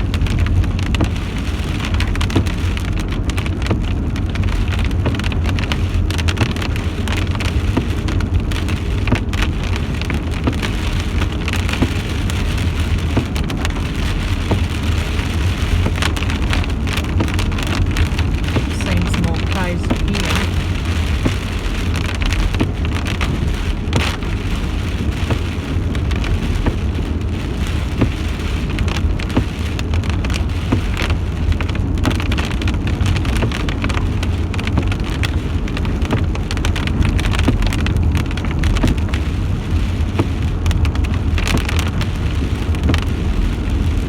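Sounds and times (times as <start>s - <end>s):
constant low rumble: 0.0s - 44.0s
rain drops ticking: 0.0s - 44.0s
steady rain: 0.0s - 44.0s.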